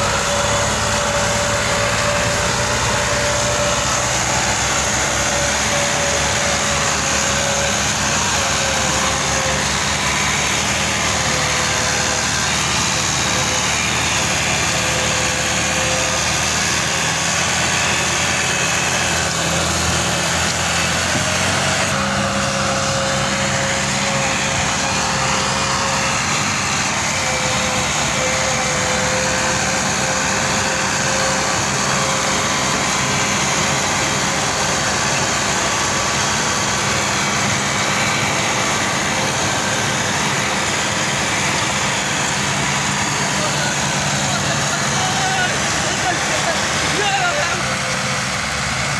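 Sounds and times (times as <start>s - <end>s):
tractor diesel engines under load: 0.0s - 48.9s.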